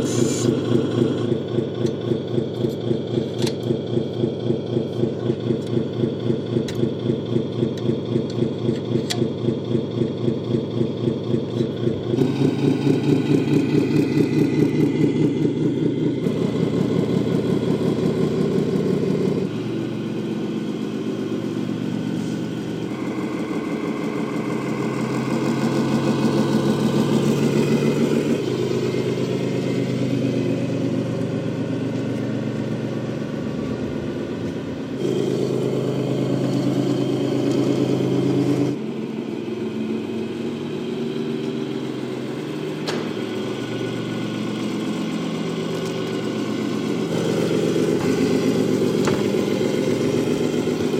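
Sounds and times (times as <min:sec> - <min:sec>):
simulated diesel truck engine: 0:00.0 - 0:50.9.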